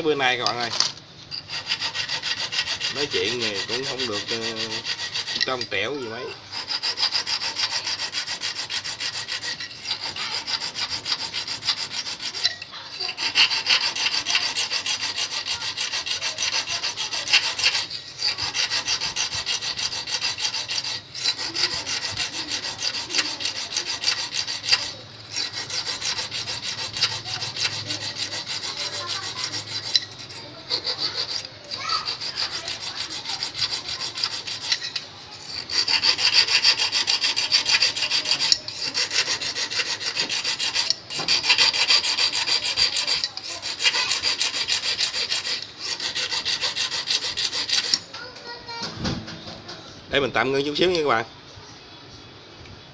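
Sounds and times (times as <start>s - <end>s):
hand file rasping on metal wire: 0.2s - 48.9s.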